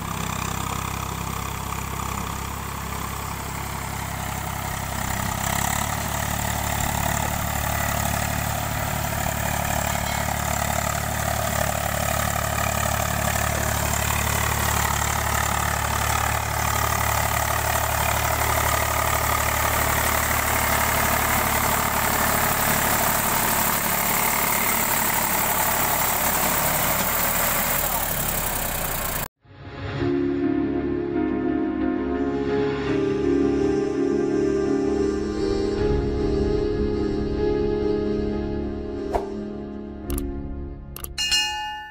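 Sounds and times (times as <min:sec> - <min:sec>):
tractor diesel engine running: 0:00.0 - 0:29.3, 0:30.8 - 0:41.9.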